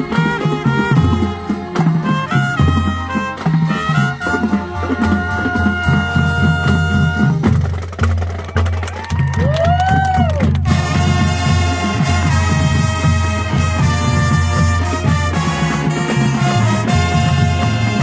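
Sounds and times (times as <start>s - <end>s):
brass note bending: 0.0s - 7.5s, 10.7s - 18.0s
brass and woodwinds: 0.0s - 7.7s, 9.9s - 18.0s
drumline beat: 0.0s - 18.0s.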